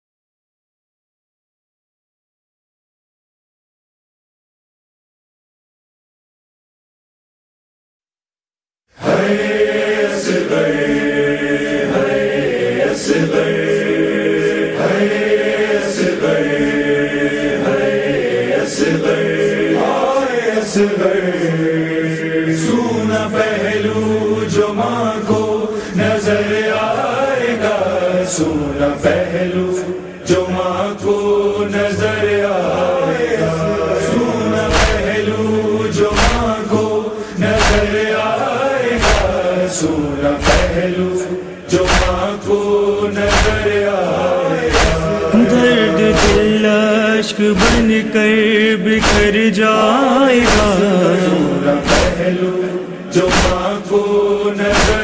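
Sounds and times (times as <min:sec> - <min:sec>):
chorus of voices chanting: 0:08.9 - 0:55.0.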